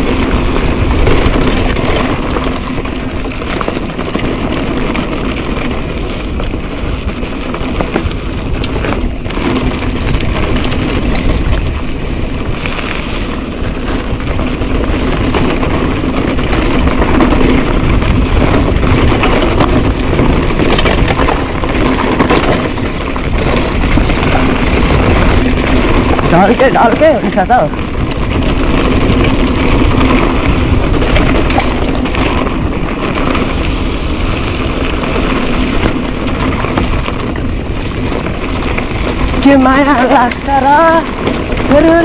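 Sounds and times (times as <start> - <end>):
bike tyres crunching over stones: 0.0 - 42.0
wind rumble on microphone: 0.0 - 42.0.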